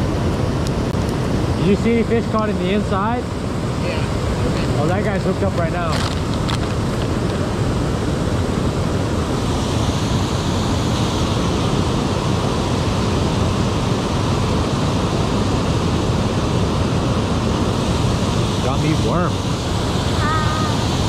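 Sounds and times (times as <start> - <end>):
water rushing over a dam spillway: 0.0 - 21.0.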